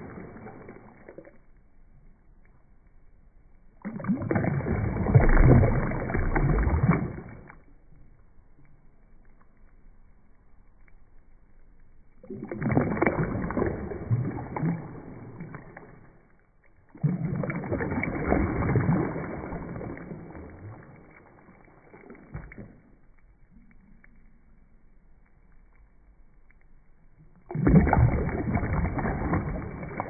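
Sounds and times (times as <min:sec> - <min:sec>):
water sloshing and splashing: 0:00.0 - 0:02.6, 0:03.7 - 0:09.5, 0:12.1 - 0:24.4, 0:25.2 - 0:30.0.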